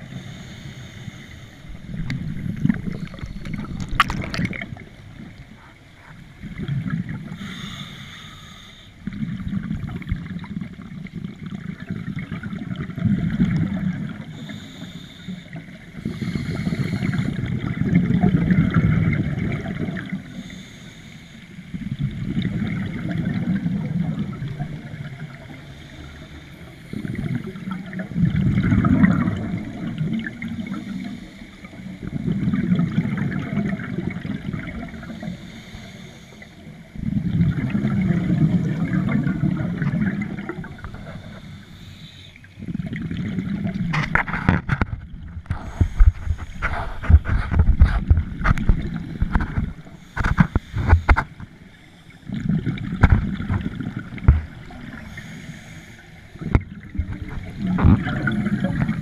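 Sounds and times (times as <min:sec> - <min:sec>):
underwater exhaust bubbles rumbling: 0:00.0 - 0:08.0, 0:09.0 - 0:20.6, 0:21.6 - 0:35.7, 0:36.6 - 0:41.6, 0:42.4 - 0:55.6, 0:56.2 - 0:59.0.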